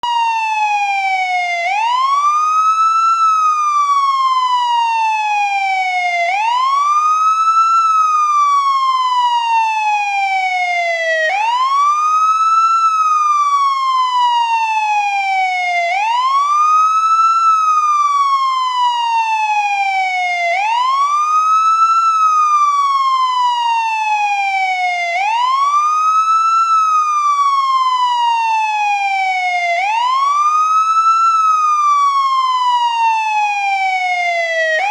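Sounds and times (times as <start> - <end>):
police siren wailing: 0.0 - 34.9.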